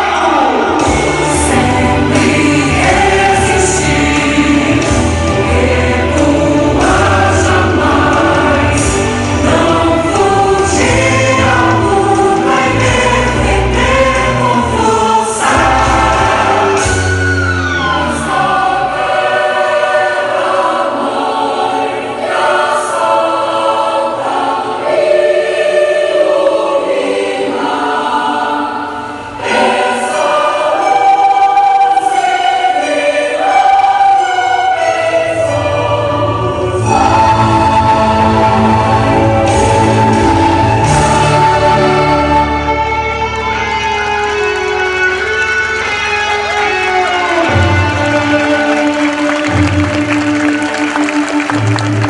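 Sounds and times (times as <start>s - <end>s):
choir singing with accompaniment: 0.0s - 52.0s.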